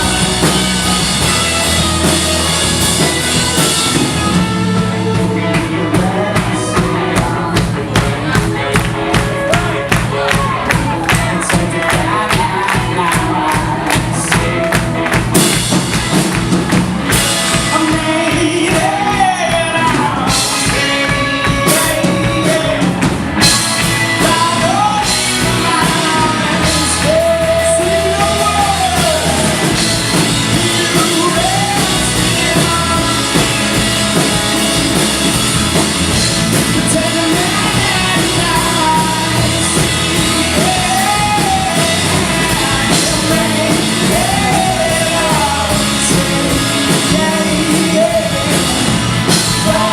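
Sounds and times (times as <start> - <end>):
lead vocalist singing: 0.0 - 49.9
rock band playing live: 0.0 - 49.9.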